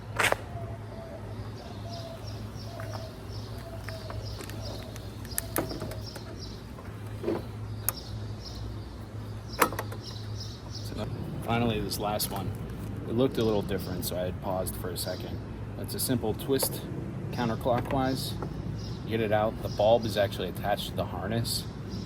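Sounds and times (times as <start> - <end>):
bird chirping: 0.4 - 12.6, 13.4 - 20.8.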